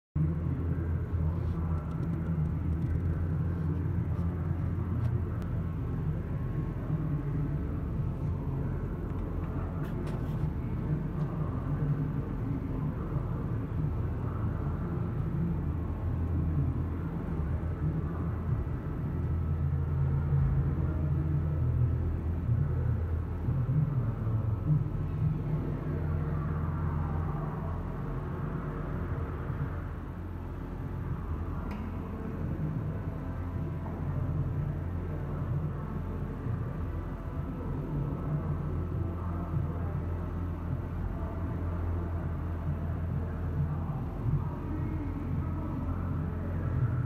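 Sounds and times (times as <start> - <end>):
lathe humming and rumbling: 0.2 - 47.0.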